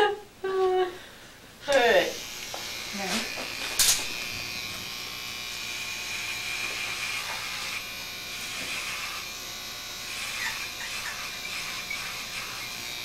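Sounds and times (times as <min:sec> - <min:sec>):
electric hair edger buzzing: 0:01.7 - 0:13.0.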